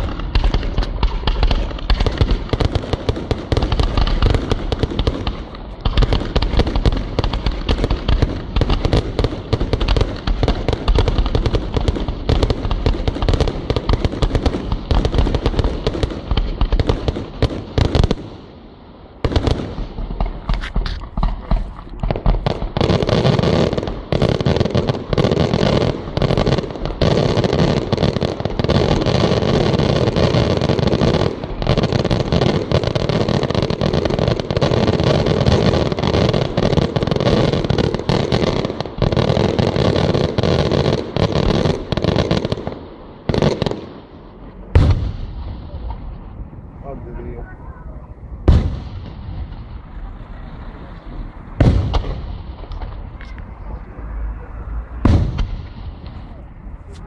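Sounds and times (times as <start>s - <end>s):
fireworks cracks and bangs: 0.0s - 57.0s.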